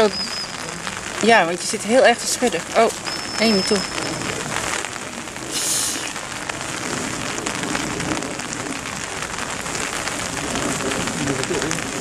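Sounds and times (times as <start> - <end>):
rain pattering: 0.0 - 12.0
rustling hiss: 0.0 - 12.0.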